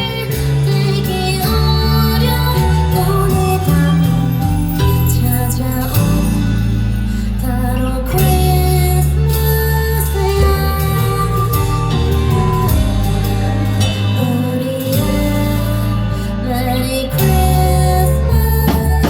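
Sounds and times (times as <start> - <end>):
live band playing pop song: 0.0 - 19.0
steady bass line: 0.0 - 19.0.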